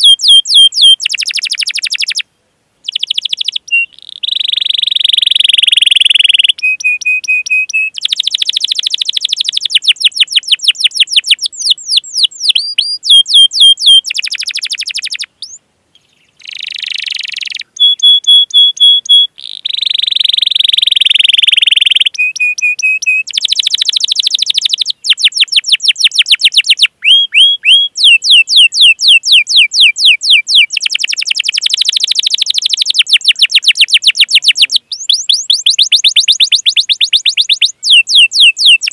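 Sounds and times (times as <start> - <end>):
canary singing trills: 0.0 - 2.2, 2.8 - 38.9.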